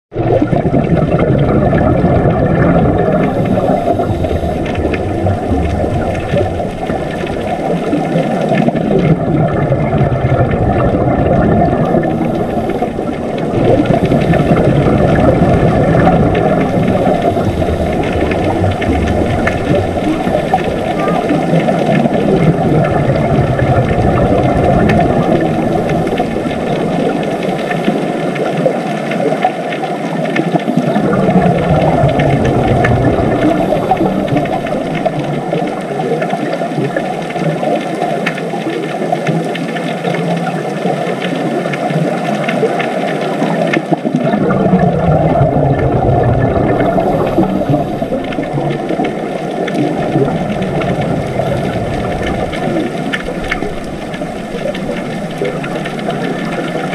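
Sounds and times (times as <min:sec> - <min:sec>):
low underwater rumble: 0:00.1 - 0:29.7, 0:30.4 - 0:39.7, 0:40.4 - 0:56.9.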